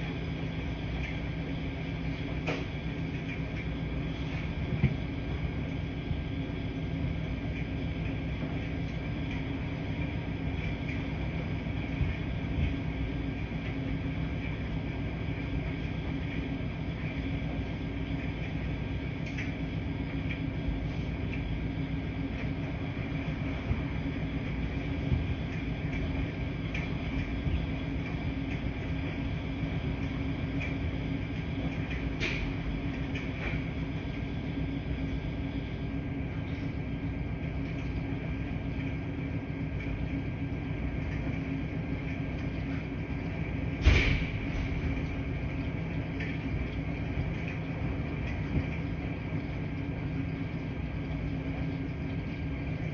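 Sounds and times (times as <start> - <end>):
washing machines rumbling: 0.0 - 52.9.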